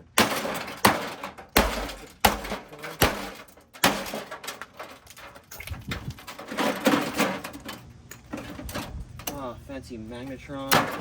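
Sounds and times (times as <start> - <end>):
clatter of metal and plastic: 0.2 - 9.4, 10.6 - 11.0.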